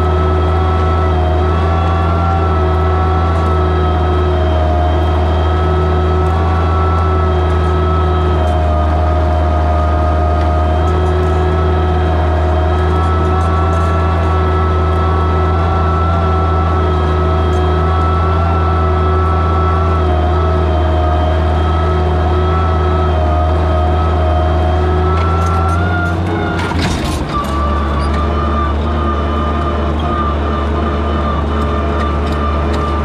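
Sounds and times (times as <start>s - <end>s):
tractor engine under load: 0.0s - 33.0s.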